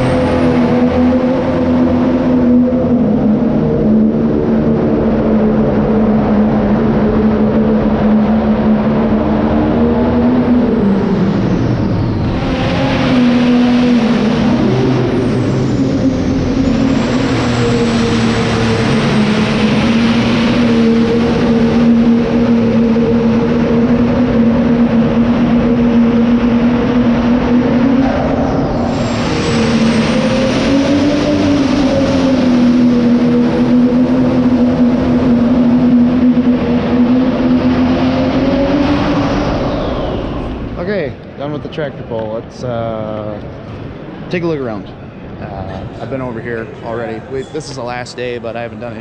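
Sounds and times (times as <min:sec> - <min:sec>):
tractor engine running hard: 0:00.0 - 0:41.4.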